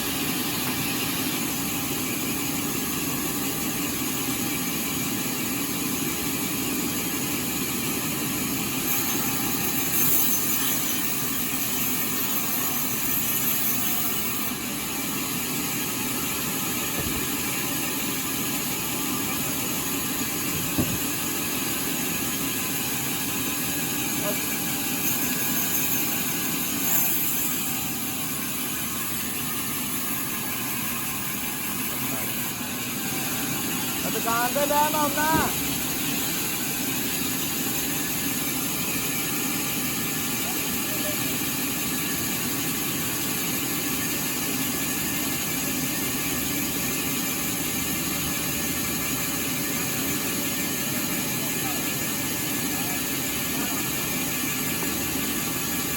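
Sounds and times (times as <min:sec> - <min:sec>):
sawmill machinery humming: 0:00.0 - 0:55.9.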